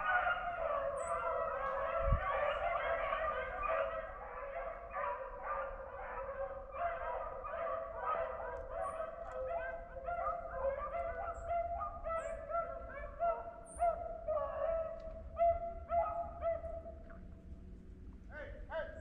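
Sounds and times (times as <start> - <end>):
beagles baying: 0.0 - 17.4.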